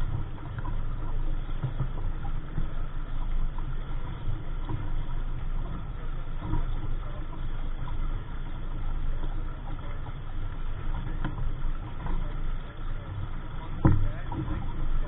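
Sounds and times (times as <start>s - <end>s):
faint tick: 0.0s - 15.0s.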